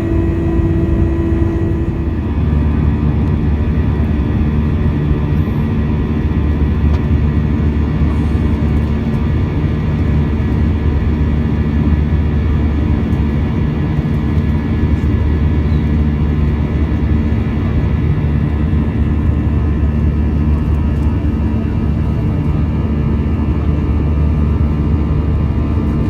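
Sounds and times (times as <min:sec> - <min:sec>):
airplane cabin engine roar: 0:00.0 - 0:26.0.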